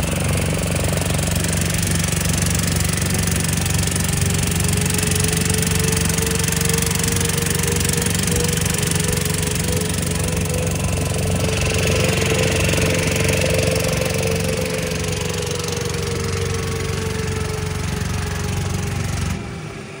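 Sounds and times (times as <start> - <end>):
motorboat engine droning: 0.0 - 20.0.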